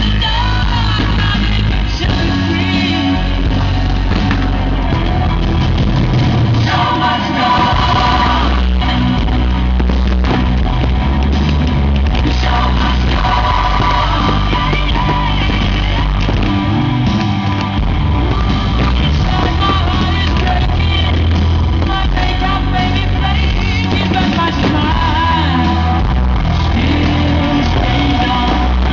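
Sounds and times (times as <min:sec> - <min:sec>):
rock music with singing: 0:00.0 - 0:28.9.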